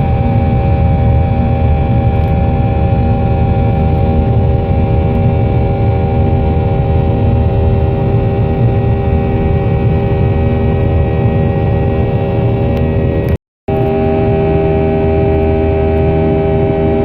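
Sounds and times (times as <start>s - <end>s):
low rumble: 0.0s - 17.0s
steady buzzing hum: 0.0s - 17.0s.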